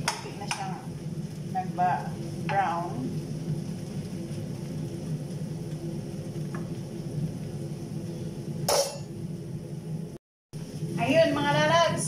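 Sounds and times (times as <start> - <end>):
okra frying in oil: 0.0 - 12.0
steady low hum: 0.0 - 12.0.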